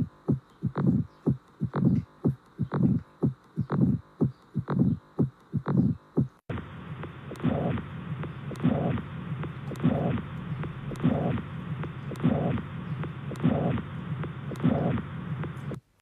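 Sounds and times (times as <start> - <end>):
heartbeat: 0.0 - 15.9
constant hiss: 0.0 - 16.0.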